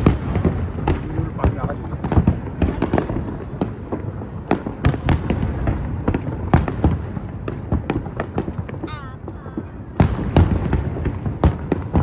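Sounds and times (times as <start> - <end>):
fireworks cracks and bangs: 0.0 - 12.0.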